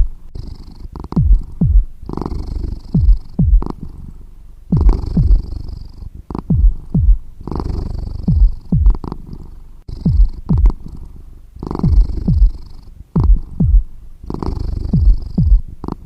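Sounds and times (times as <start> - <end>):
cat purring loudly: 0.0 - 16.0.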